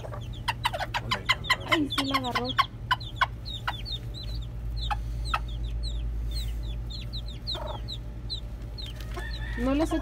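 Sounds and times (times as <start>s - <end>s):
chicks peeping: 0.0s - 10.0s
hen clucking: 0.0s - 10.0s
steady low hum: 0.0s - 10.0s.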